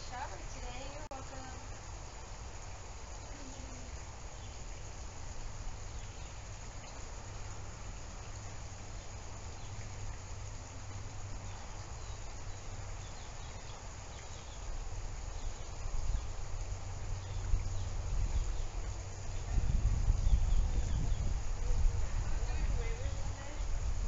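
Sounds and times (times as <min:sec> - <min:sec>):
low hum and rumble: 0:00.0 - 0:24.0.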